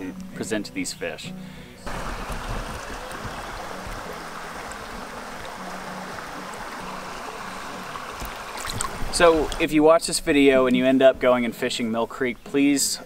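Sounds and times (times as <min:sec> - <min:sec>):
faint background music: 0:00.0 - 0:13.0
creek water running over rocks: 0:01.8 - 0:13.0.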